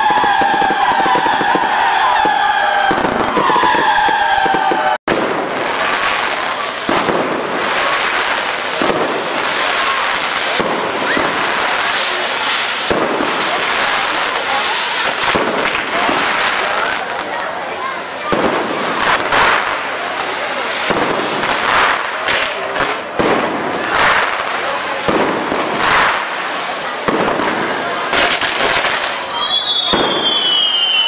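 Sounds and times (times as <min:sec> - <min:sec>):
crackle of burning sparks: 0:00.0 - 0:17.5, 0:18.2 - 0:31.0
firework pops and bangs: 0:00.0 - 0:17.5, 0:18.2 - 0:31.0
whistling fireworks: 0:00.0 - 0:31.0.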